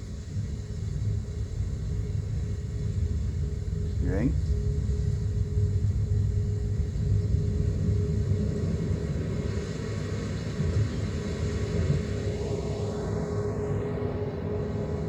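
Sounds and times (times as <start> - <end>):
pink noise rumble through loudspeakers: 0.0 - 15.0.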